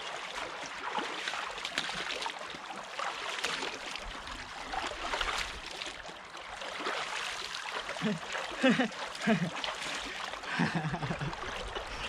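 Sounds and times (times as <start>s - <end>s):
flowing canal water rushing: 0.0s - 12.0s.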